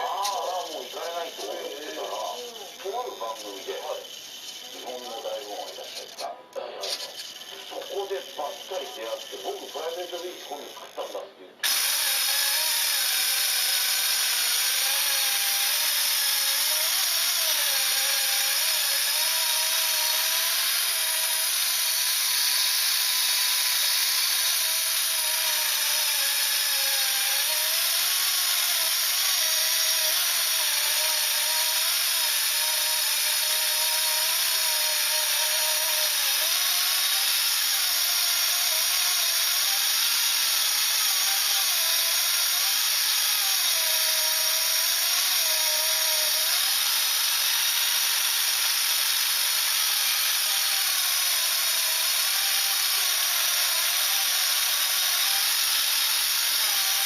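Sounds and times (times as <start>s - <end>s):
drive motors whining: 0.0s - 57.0s.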